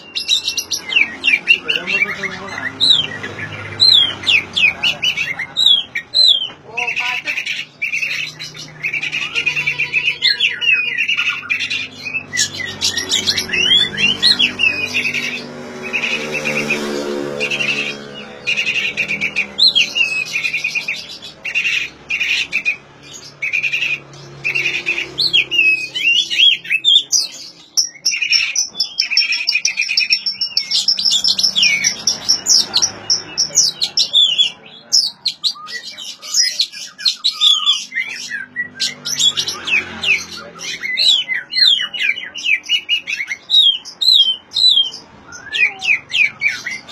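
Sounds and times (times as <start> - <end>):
high drawn-out bird trill: 0.0 - 46.9
songbird whistling and chirping: 0.0 - 46.9.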